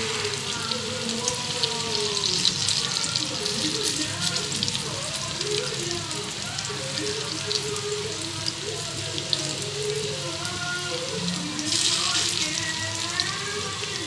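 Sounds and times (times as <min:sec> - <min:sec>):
hot oil sizzling and crackling: 0:00.0 - 0:14.0.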